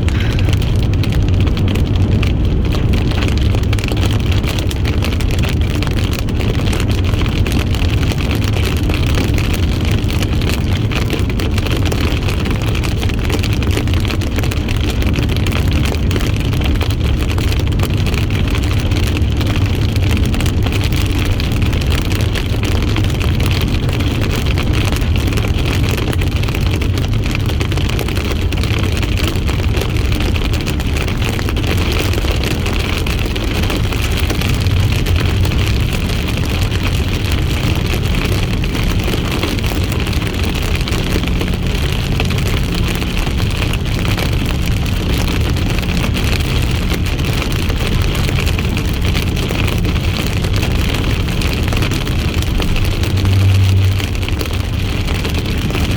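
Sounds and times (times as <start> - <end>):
car cabin road rumble: 0.0 - 55.9.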